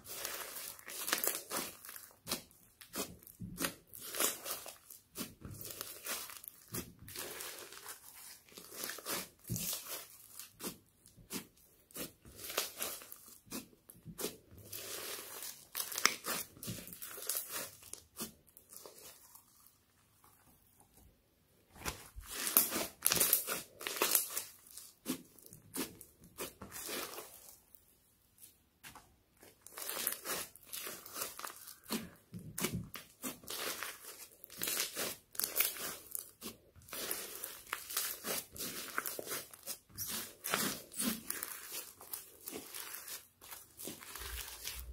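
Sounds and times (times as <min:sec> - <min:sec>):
slime crackling and squelching: 0:00.0 - 0:20.9, 0:21.7 - 0:44.9.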